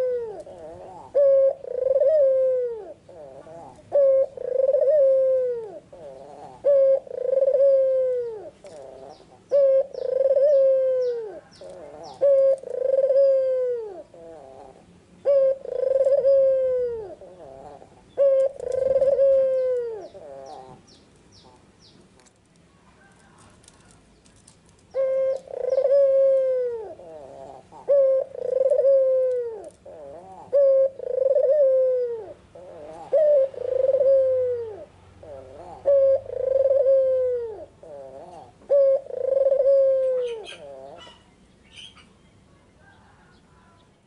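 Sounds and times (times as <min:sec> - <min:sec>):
dove cooing: 0:00.0 - 0:21.7, 0:23.0 - 0:43.8.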